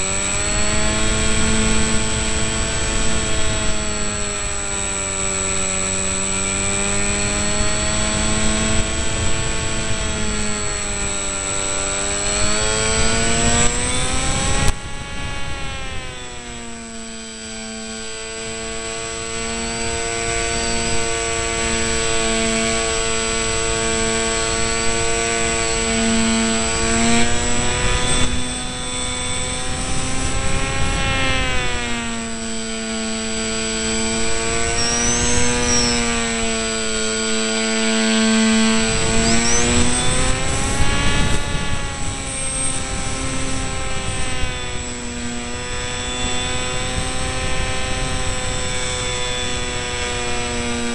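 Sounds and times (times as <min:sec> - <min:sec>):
electric motor and propeller whining: 0:00.0 - 0:50.9
thin high steady whine: 0:00.0 - 0:50.9.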